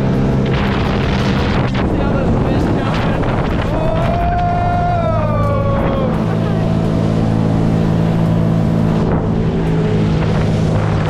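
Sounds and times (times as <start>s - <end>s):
jet ski engine running: 0.0s - 11.0s
water rushing: 0.0s - 11.0s.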